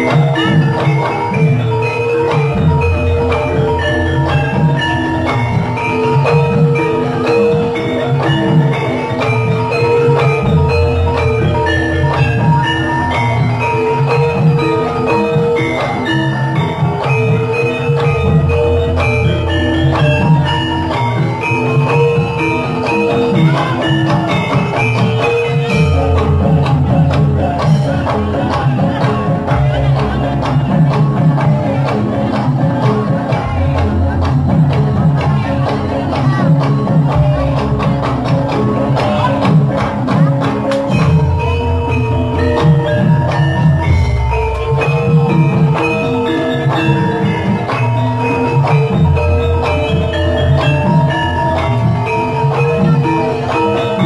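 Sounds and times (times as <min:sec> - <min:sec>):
gamelan music: 0:00.0 - 0:54.0
metallophone melody: 0:00.0 - 0:54.0.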